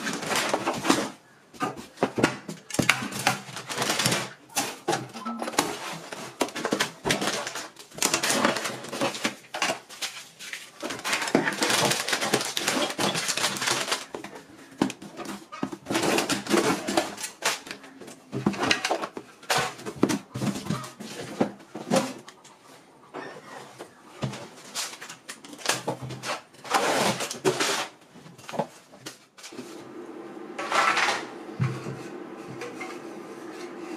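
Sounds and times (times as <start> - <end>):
plastic packets rustling and clattering: 0.0 - 22.7, 23.6 - 29.6.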